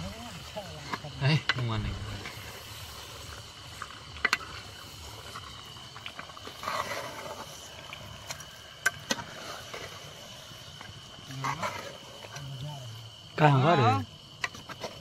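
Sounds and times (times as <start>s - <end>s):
ladle stirring in a pot: 0.4s - 12.4s.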